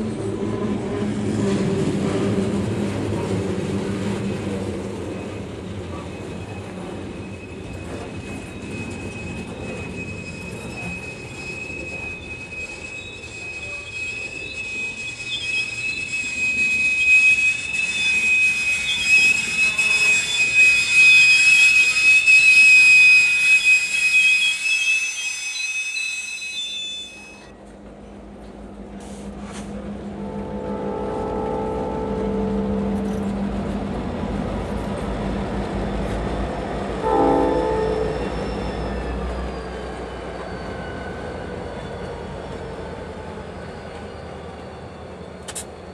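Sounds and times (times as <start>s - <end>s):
train wheels squealing on rail: 0.0s - 27.7s, 28.9s - 45.9s
low rumble of train: 0.0s - 45.9s.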